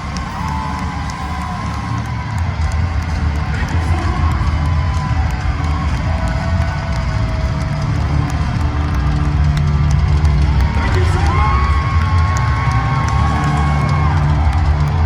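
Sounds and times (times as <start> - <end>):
crowd cheering: 0.0 - 15.0.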